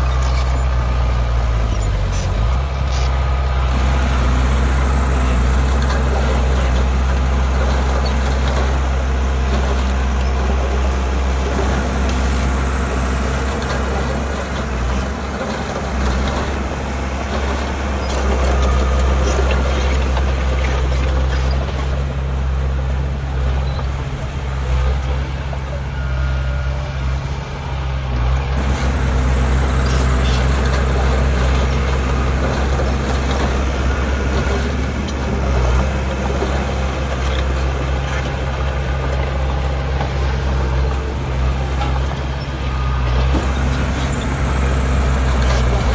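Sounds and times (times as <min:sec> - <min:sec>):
heavy diesel engine humming: 0:00.0 - 0:45.9.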